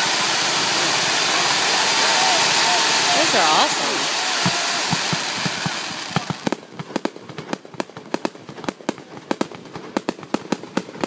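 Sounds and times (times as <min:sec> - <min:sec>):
fireworks rush of noise: 0:00.0 - 0:11.0
fireworks sharp bangs: 0:00.0 - 0:11.0.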